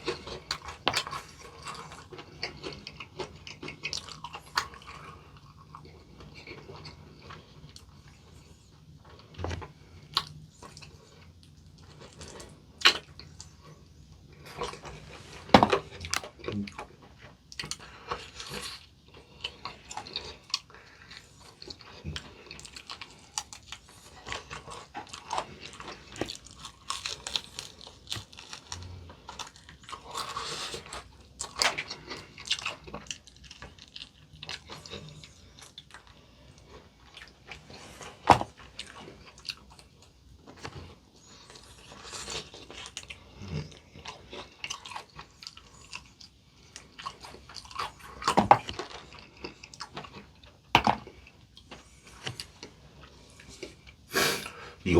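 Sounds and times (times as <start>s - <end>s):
crunchy chewing of fried chicken: 0.0s - 54.9s.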